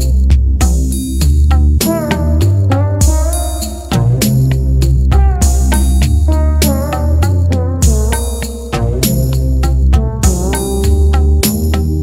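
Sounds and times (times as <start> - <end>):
instrumental music with bass and drums: 0.0 - 12.0.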